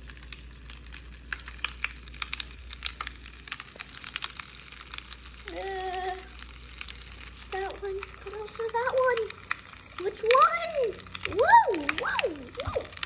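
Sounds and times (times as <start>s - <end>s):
bath crackles popping in water: 0.0s - 13.0s.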